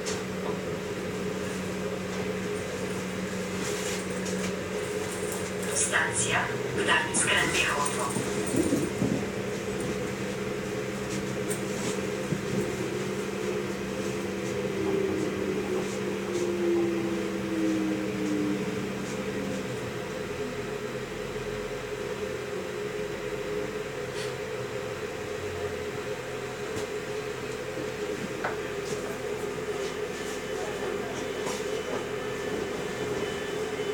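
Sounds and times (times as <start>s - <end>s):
train engine hum: 0.0s - 33.9s.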